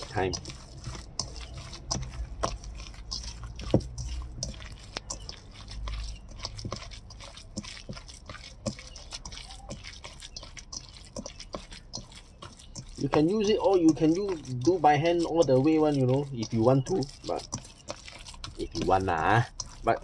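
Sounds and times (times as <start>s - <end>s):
wet squishes of fish paste: 0.0s - 20.0s.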